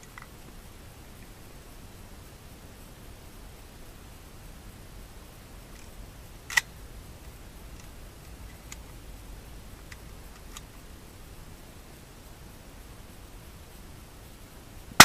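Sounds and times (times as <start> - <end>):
faint ticks: 0.0 - 15.0.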